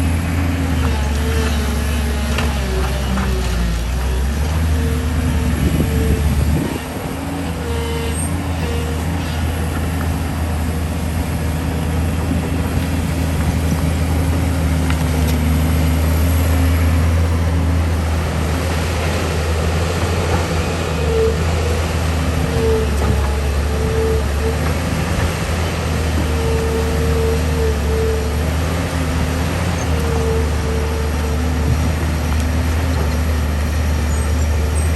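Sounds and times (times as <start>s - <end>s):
excavator diesel engine running: 0.0s - 34.9s
hydraulic whine: 0.0s - 34.9s.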